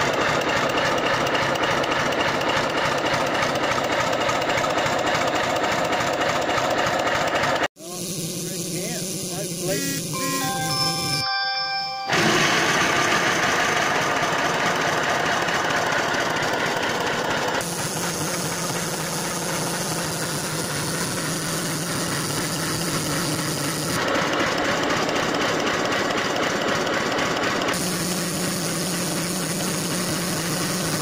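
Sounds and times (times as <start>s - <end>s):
model steam locomotive running: 0.0s - 11.5s, 12.1s - 31.0s.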